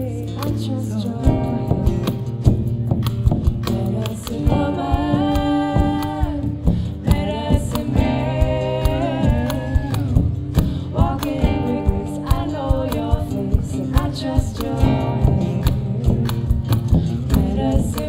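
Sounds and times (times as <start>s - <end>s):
woman singing: 0.0s - 2.6s, 3.4s - 18.0s
acoustic guitar: 0.0s - 18.0s
drums beating: 1.2s - 18.0s.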